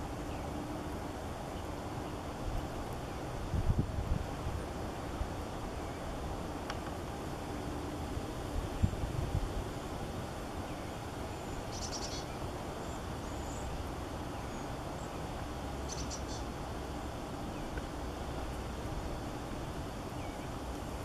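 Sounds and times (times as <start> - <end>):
songbirds chirping trills: 0.0 - 3.6, 4.2 - 21.0
low outdoor rumble: 0.0 - 21.0.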